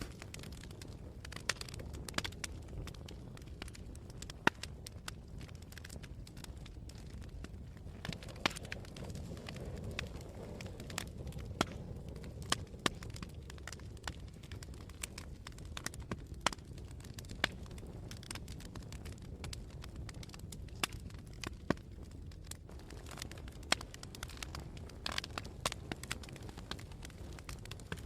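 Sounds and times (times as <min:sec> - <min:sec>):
fire crackling and popping: 0:00.0 - 0:28.0
fire rumbling: 0:00.0 - 0:28.0.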